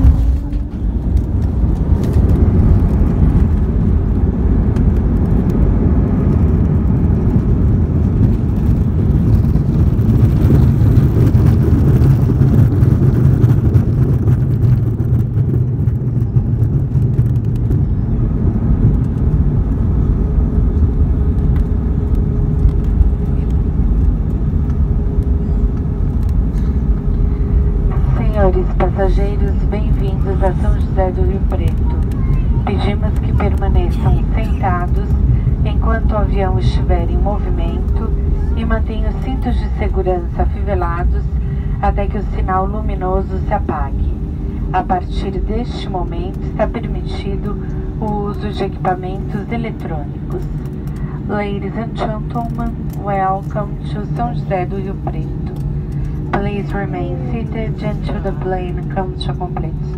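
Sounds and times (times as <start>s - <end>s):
engine whine: 0.0s - 59.9s
wheels and engines rumbling: 0.0s - 59.9s.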